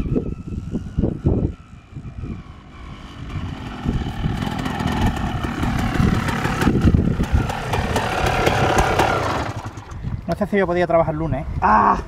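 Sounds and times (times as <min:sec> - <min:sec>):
motorcycle engine approaching: 0:00.0 - 0:10.7.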